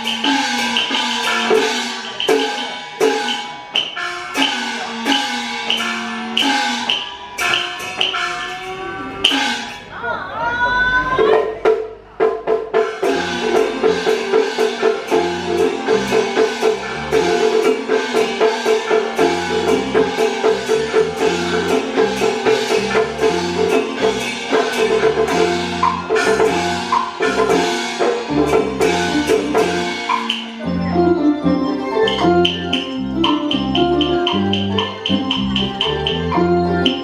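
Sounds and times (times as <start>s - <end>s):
wood block strikes: 0.0s - 8.6s, 11.3s - 37.0s
drum strikes: 0.0s - 9.9s, 11.2s - 37.0s
instrumental melody: 0.0s - 10.0s, 11.2s - 37.0s.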